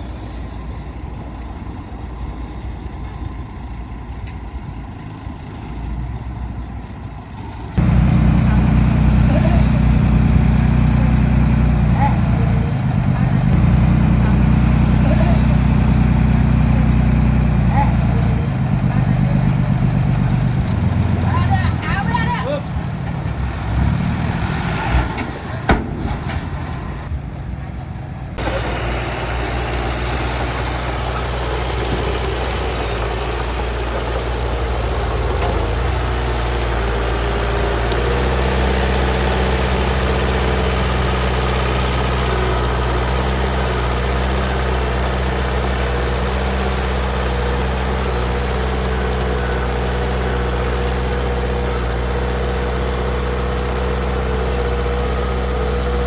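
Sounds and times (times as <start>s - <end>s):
heavy machine engine running: 0.0s - 56.0s.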